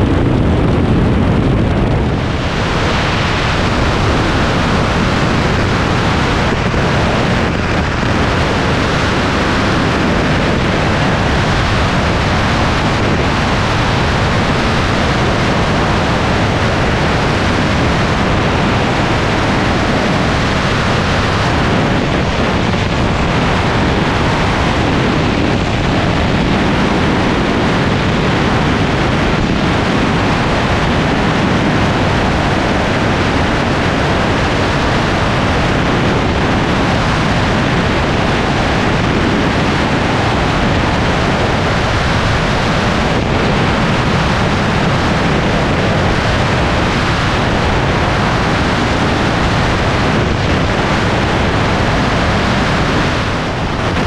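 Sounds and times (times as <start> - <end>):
aircraft engine and propeller drone: 0.0 - 54.0
airflow rushing over camera: 0.0 - 54.0.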